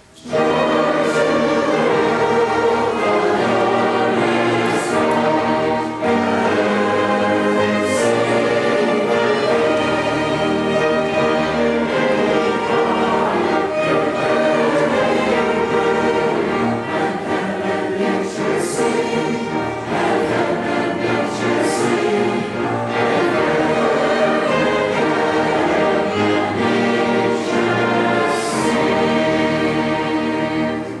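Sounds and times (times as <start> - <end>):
choir singing: 0.0 - 31.0
orchestra playing: 0.0 - 31.0.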